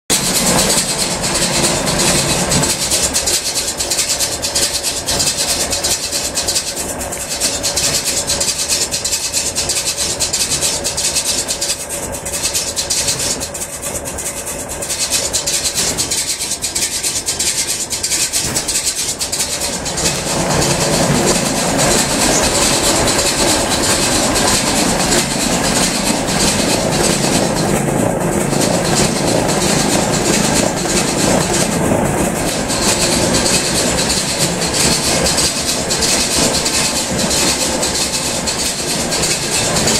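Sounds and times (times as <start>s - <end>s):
baler rollers clattering: 0.1s - 39.9s.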